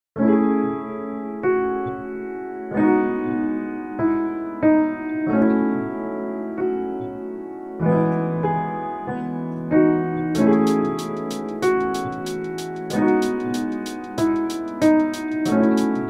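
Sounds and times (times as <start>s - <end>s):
gentle piano melody: 0.2s - 16.0s.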